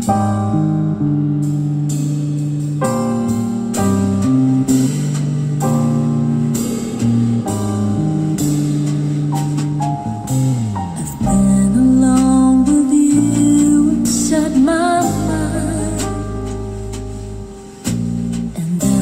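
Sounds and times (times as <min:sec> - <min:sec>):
guitar instrumental music: 0:00.0 - 0:19.0.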